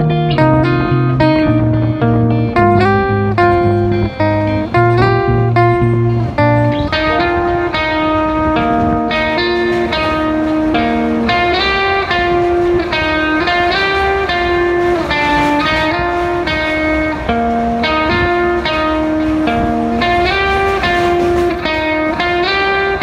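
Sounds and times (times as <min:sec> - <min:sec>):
guitar-led instrumental music: 0:00.0 - 0:23.0.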